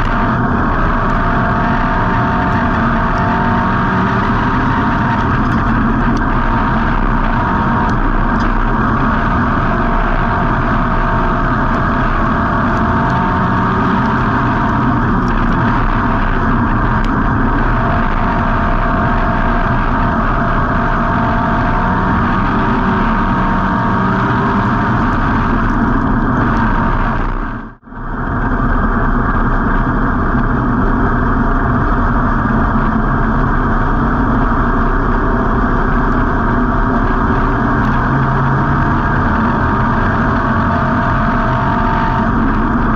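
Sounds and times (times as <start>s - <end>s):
race car engine running: 0.0s - 42.9s.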